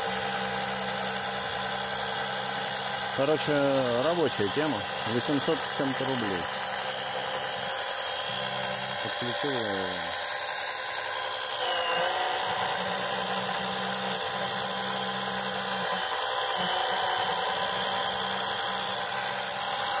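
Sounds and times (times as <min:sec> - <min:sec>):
electric pump motor whining: 0:00.0 - 0:20.0.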